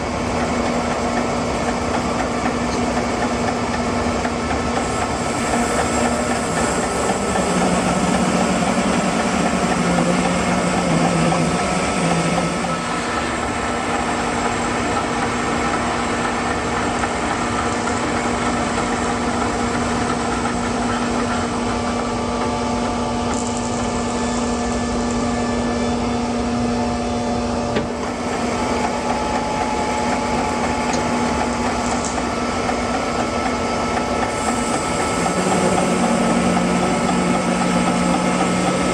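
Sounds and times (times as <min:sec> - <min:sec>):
sawmill engine running: 0:00.0 - 0:23.2, 0:27.9 - 0:38.9.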